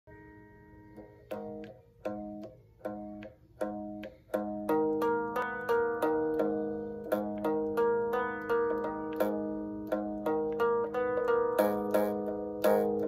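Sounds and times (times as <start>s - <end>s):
guitar plucked chords: 0.1s - 13.0s.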